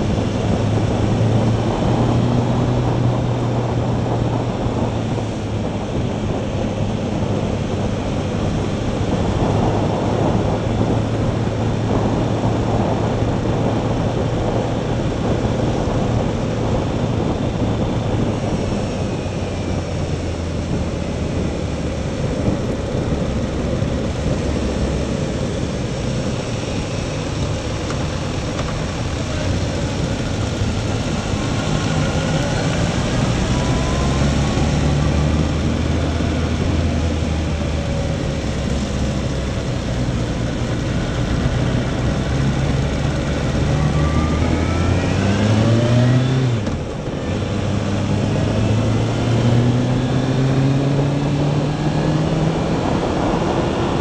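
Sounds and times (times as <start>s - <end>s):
motorcycle engine running: 0.0s - 45.7s
wind rush over microphone: 0.0s - 54.0s.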